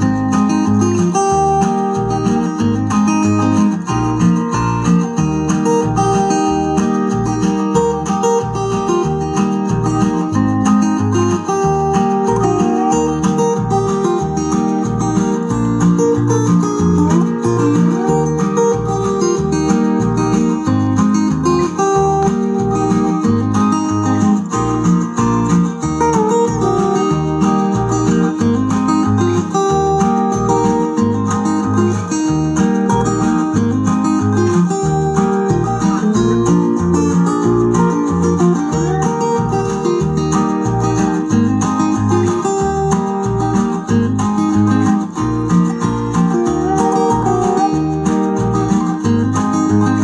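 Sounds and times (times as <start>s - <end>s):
guitar music with bass beat: 0.0s - 50.0s.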